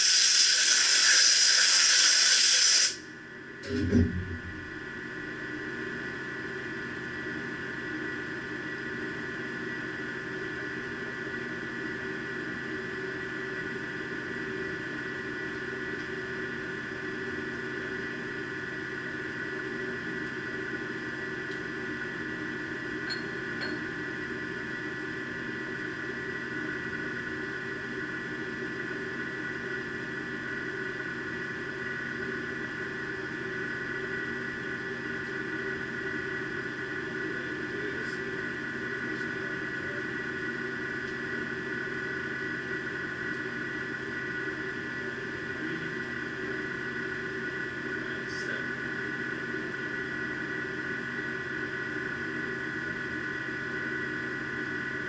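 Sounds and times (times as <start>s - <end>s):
machinery humming and whining: 0.0s - 55.0s.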